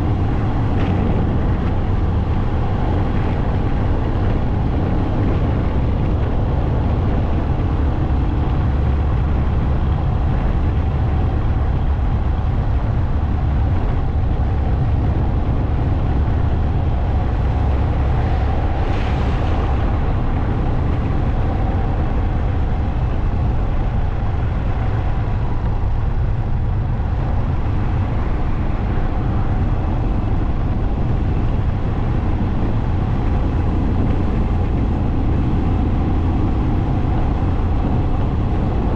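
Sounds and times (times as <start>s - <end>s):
motorcycle engine drone: 0.0s - 38.9s
wind rumble on microphone: 0.0s - 38.9s.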